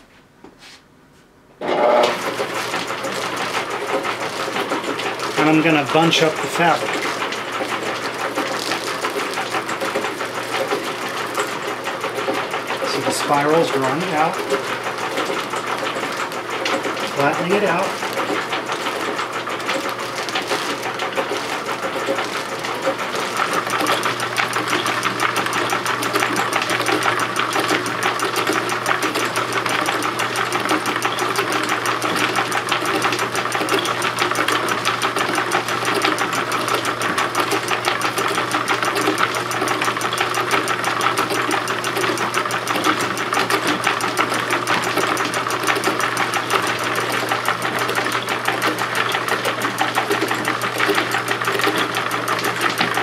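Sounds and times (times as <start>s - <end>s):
electric motor hum: 1.6s - 53.0s
machine clattering: 2.1s - 53.0s.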